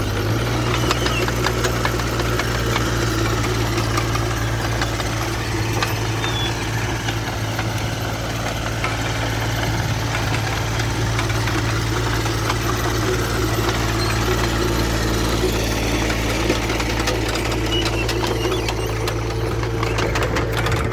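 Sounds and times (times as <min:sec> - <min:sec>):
engine idling: 0:00.0 - 0:20.9.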